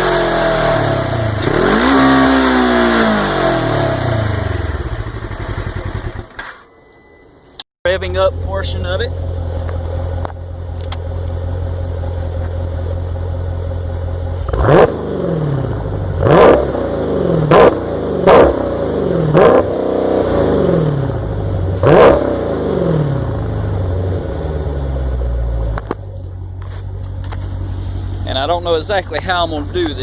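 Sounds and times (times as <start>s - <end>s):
engine idling and revving: 0.0s - 6.4s, 7.9s - 30.0s.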